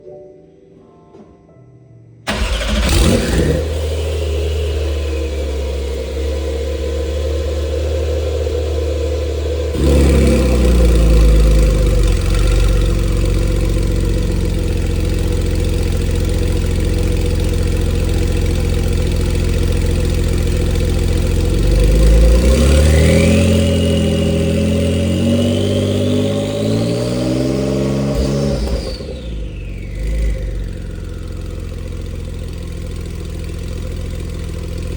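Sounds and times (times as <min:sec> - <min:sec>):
car engine idling: 0:02.3 - 0:34.9.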